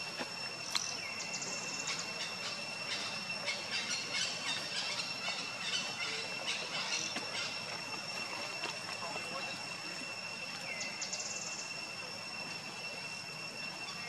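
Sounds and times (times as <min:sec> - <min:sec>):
insect chirps and clicks: 0:00.0 - 0:14.0
insects droning: 0:00.0 - 0:14.0.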